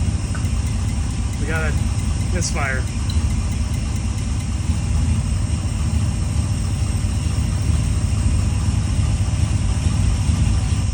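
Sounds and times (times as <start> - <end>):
car engine idling with misfire: 0.0 - 10.9.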